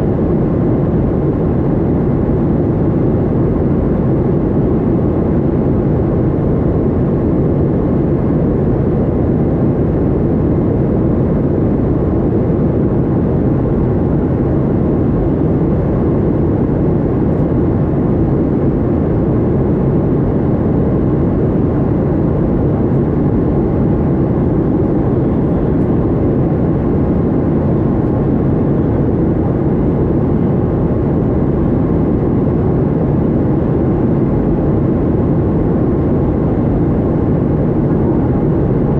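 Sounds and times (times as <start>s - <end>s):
jet engine drone: 0.0s - 38.9s.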